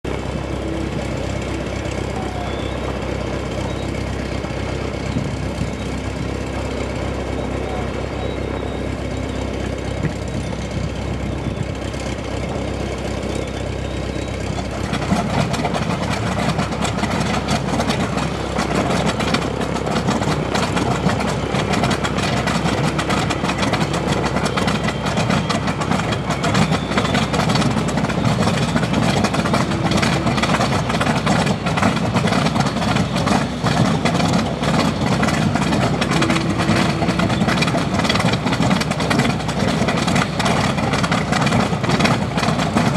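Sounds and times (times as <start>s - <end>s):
radial engine starting and idling: 0.0s - 42.9s.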